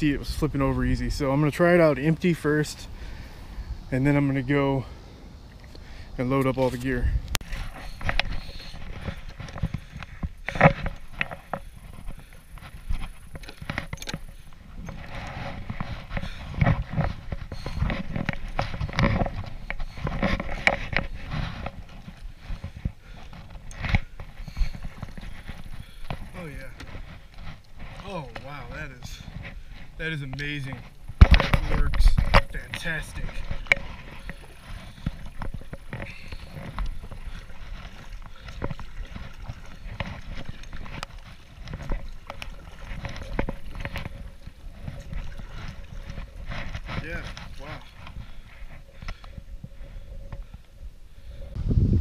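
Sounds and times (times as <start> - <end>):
paddle splashing in water: 5.1 - 51.4.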